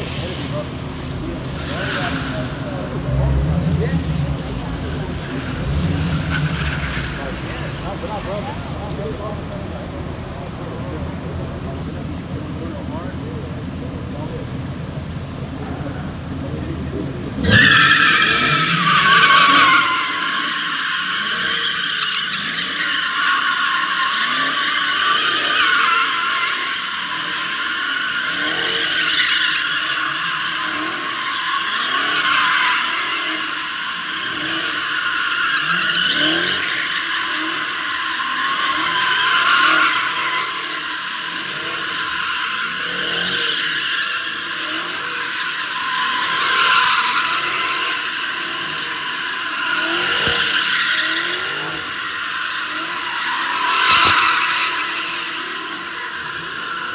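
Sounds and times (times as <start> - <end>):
car tyres squealing: 0.0 - 56.9
engine revving: 0.0 - 56.9.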